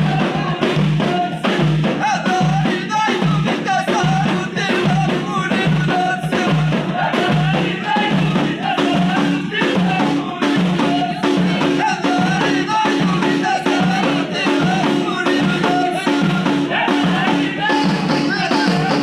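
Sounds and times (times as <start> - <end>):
frame drums beating: 0.0 - 19.0
men chanting together: 0.0 - 19.0.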